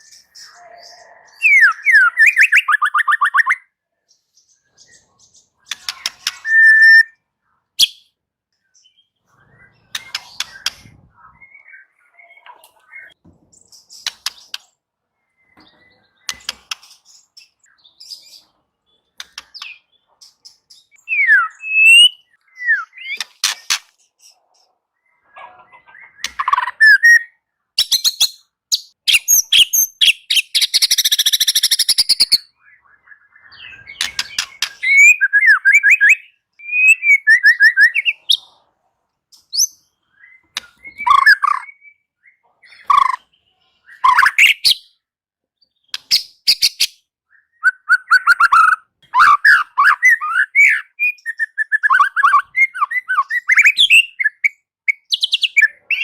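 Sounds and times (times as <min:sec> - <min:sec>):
bird singing: 0:00.0 - 0:38.7, 0:39.3 - 0:56.0.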